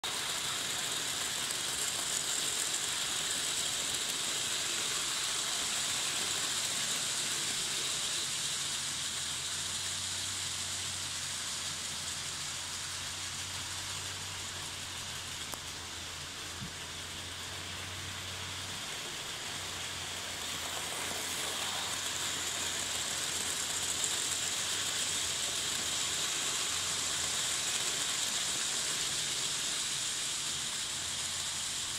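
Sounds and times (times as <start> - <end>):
model train running on track: 0.0 - 31.9.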